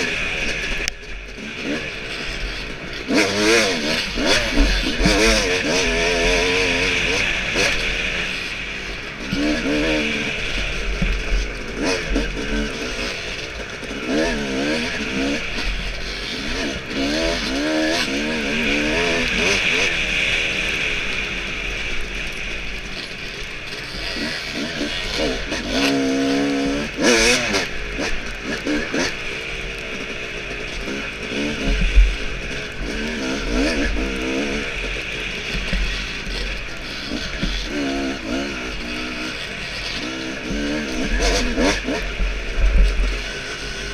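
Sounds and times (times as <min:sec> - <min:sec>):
dirt bike engine racing: 0:00.0 - 0:43.9
wind and tyre noise: 0:00.0 - 0:43.9.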